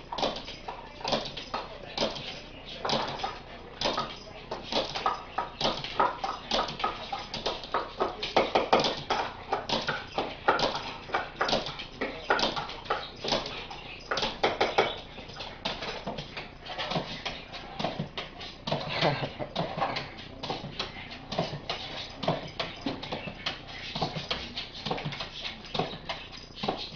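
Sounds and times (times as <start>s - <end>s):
dog claws clicking on hard floor: 0.1s - 26.9s.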